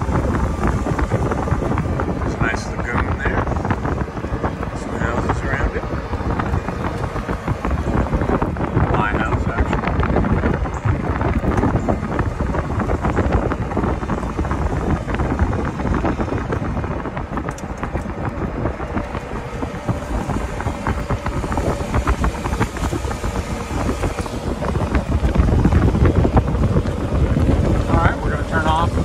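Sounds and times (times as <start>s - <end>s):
golf cart driving: 0.0s - 29.0s
wind buffeting microphone: 0.0s - 29.0s.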